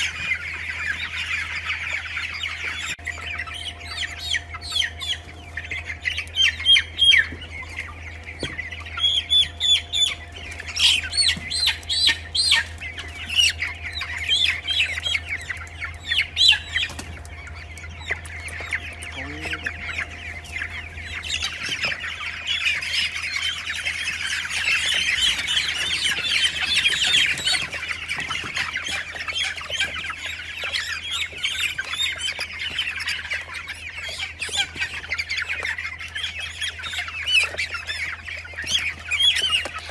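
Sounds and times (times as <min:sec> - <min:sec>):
chicks peeping: 0:00.0 - 0:39.9
steady low hum: 0:00.0 - 0:39.9.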